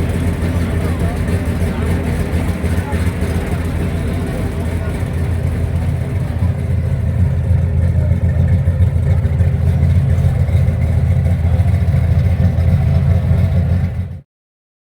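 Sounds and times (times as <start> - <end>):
car engine running: 0.0 - 14.2.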